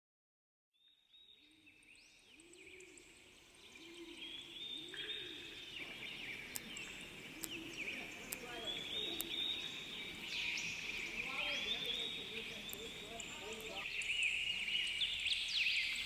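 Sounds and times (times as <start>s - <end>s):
birds chirping and twittering: 0.8s - 16.0s.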